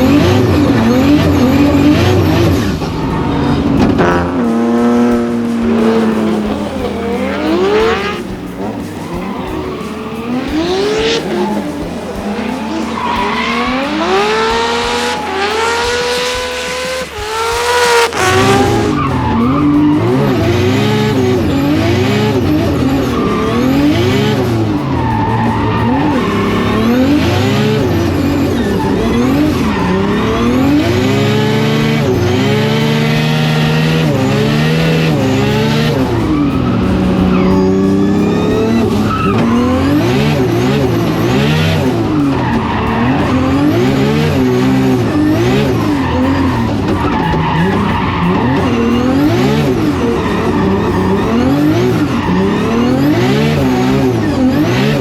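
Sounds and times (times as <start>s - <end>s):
car engine revving hard: 0.0s - 55.0s
tyre squeal: 0.0s - 55.0s.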